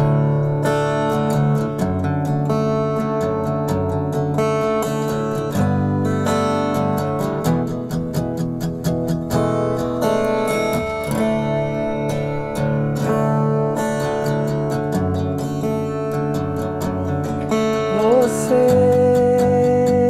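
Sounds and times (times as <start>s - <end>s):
acoustic guitar strummed chords: 0.0s - 20.0s.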